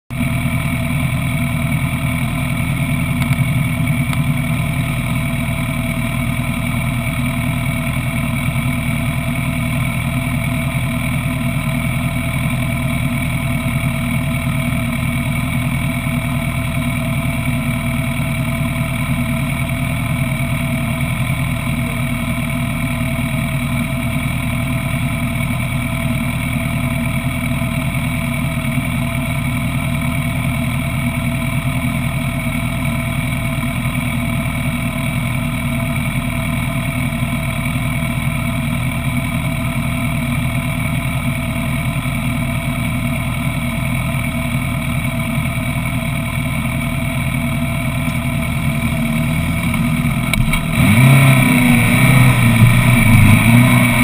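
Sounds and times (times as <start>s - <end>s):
motorcycle engine idling: 0.1s - 54.0s.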